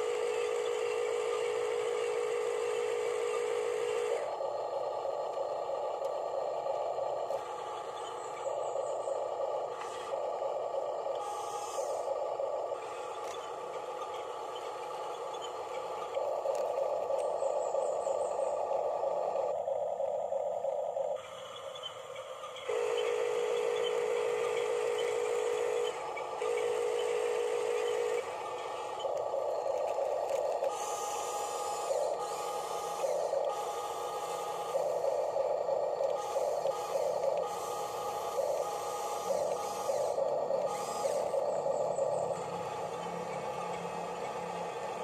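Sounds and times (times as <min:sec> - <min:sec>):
toy bulldozer motors whining: 0:00.0 - 0:45.0.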